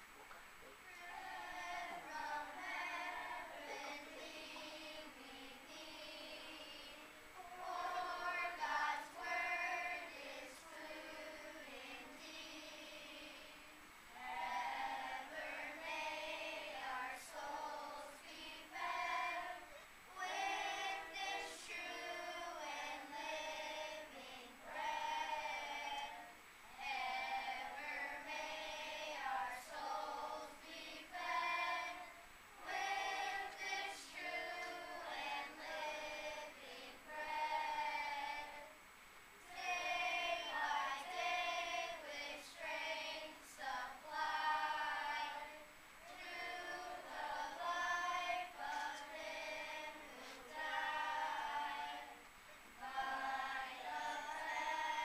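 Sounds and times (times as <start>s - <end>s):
children's choir singing: 0.0s - 38.8s, 39.4s - 55.0s.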